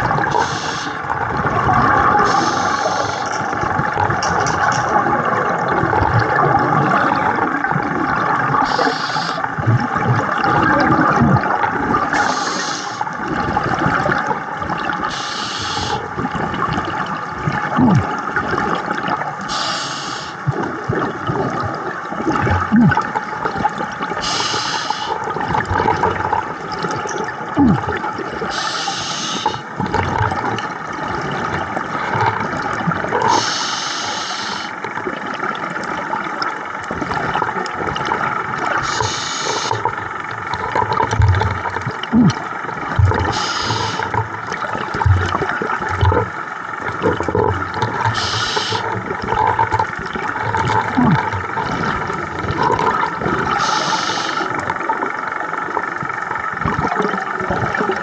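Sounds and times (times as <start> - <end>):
regulator exhaling bubbles: 0.0 - 58.0
underwater water noise: 0.0 - 58.0.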